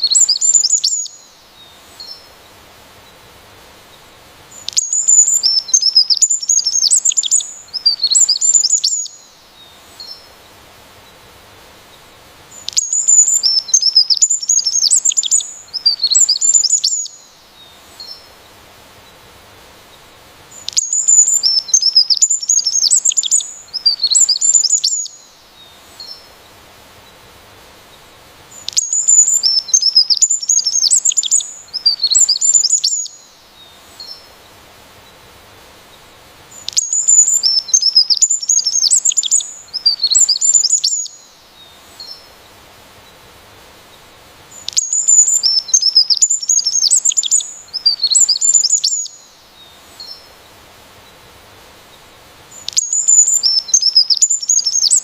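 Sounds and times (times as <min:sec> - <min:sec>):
faint steady hiss: 0:00.0 - 0:55.0
songbird singing: 0:00.0 - 0:55.0.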